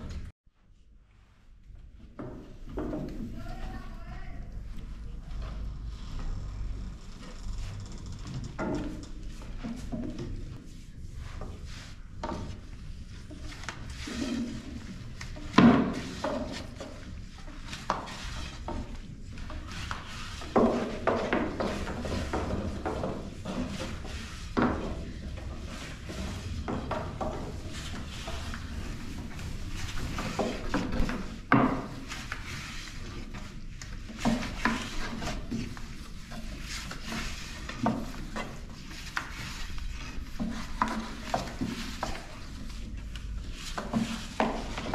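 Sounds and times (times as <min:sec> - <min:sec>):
soft rolling scrapes: 0:04.6 - 0:44.9.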